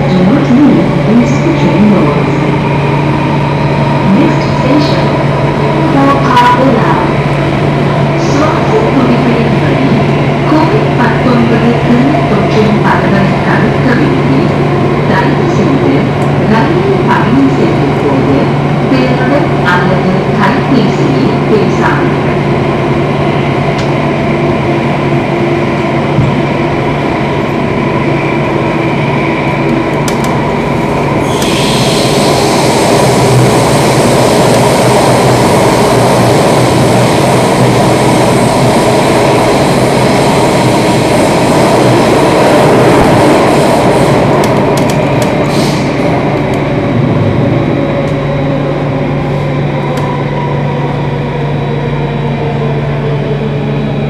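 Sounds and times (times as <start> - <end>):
train rumbling in tunnel: 0.0 - 54.0.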